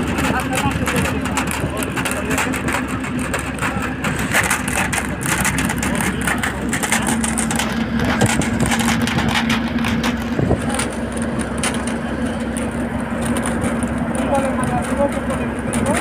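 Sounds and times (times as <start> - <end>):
bus engine and road noise: 0.0 - 16.0
steady drone: 0.0 - 16.0.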